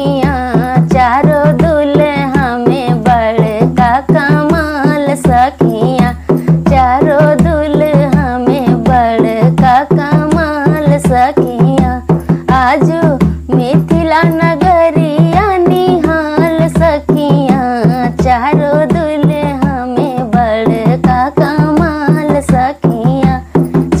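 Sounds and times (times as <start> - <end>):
hand drum rhythm: 0.0 - 24.0
woman singing folk song: 0.0 - 24.0.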